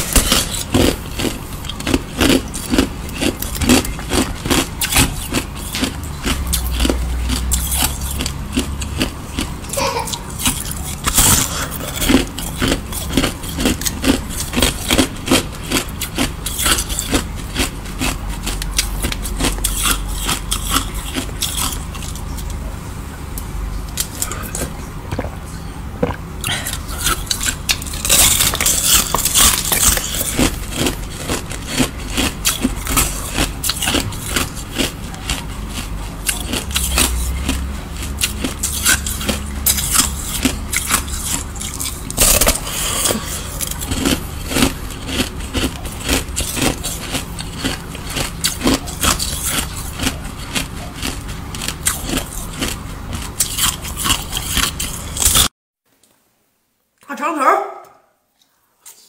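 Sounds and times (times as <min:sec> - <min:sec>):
crisp crunching and chewing: 0:00.0 - 0:22.7, 0:23.4 - 0:25.4, 0:26.0 - 0:55.5
steady low hum: 0:00.0 - 0:55.5.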